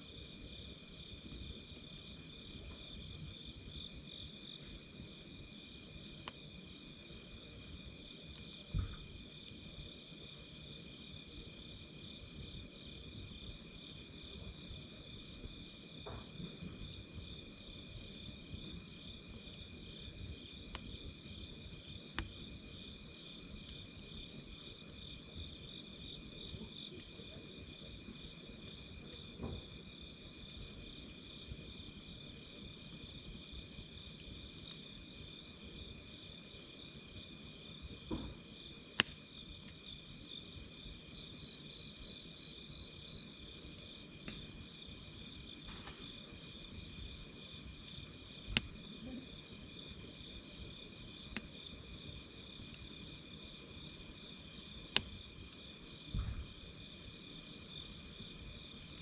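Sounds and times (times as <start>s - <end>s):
fire crackling and popping: 0.0s - 59.0s
wood fire hissing: 0.0s - 59.0s
crickets chirring: 0.1s - 59.0s.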